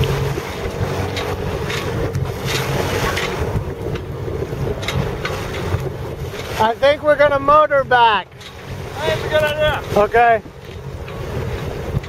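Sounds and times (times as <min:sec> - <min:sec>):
choppy water rushing along hull: 0:00.0 - 0:12.0
wind buffeting microphone: 0:00.0 - 0:12.0.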